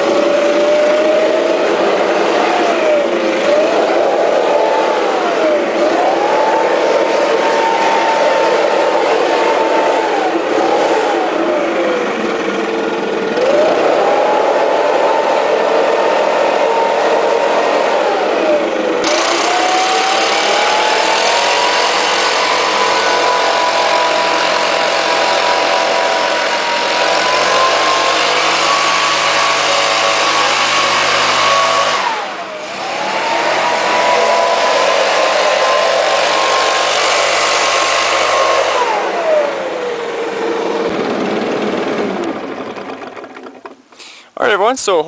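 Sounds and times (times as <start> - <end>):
leaf blower engine revving: 0.0 - 44.3.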